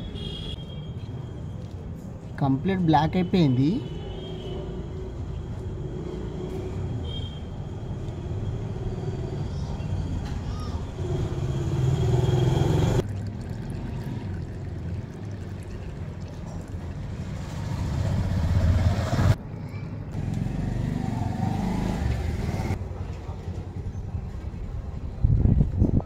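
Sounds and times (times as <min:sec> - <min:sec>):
motor vehicles rumbling: 0:00.0 - 0:26.0.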